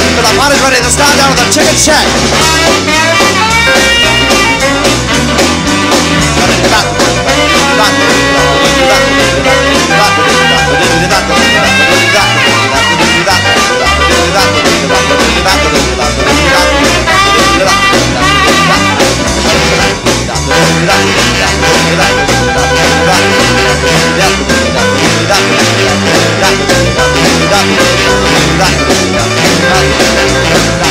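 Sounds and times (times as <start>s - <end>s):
rhythm and blues band playing: 0.0s - 30.9s.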